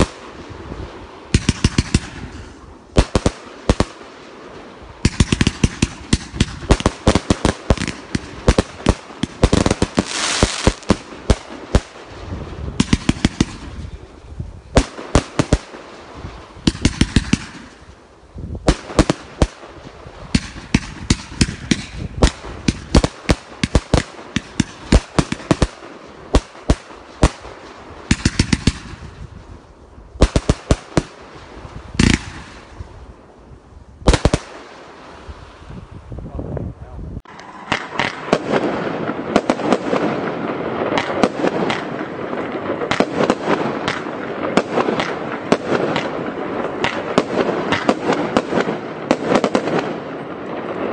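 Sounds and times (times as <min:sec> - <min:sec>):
firework cake firing volleys: 0:00.0 - 0:35.8, 0:37.2 - 0:50.9.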